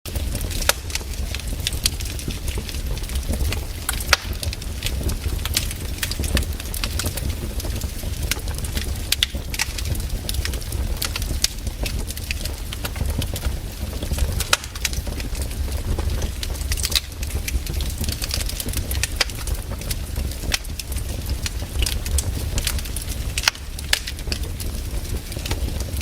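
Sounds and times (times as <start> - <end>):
low rumble of fire: 0.1 - 26.0
wood fire crackling and popping: 0.1 - 26.0.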